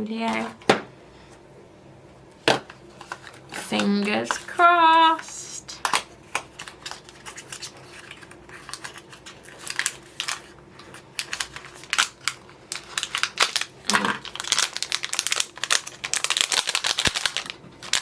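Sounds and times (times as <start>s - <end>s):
wrapping crinkling and rustling: 2.6s - 18.0s.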